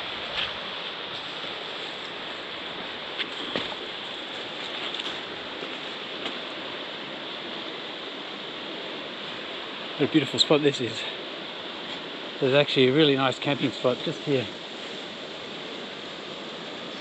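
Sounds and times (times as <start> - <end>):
river water over rocks: 0.0 - 17.0.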